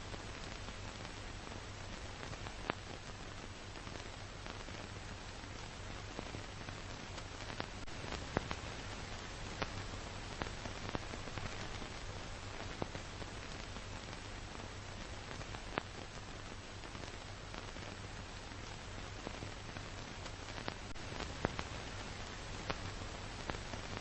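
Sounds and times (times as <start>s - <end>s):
film surface noise hiss: 0.0s - 24.0s.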